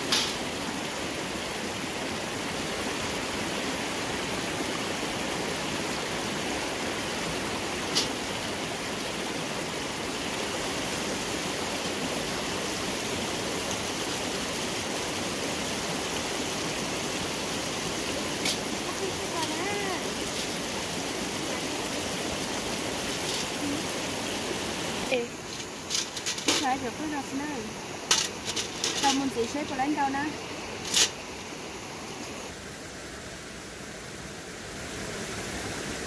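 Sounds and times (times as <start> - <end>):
small waterfall rushing: 0.0 - 36.0.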